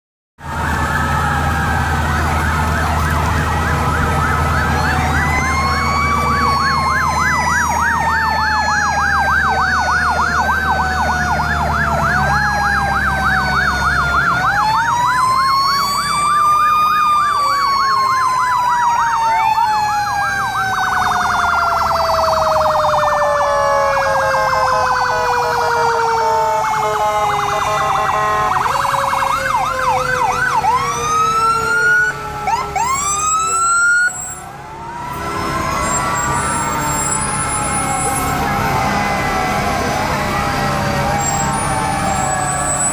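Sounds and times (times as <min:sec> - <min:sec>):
emergency vehicle sirens: 0:00.4 - 0:42.9.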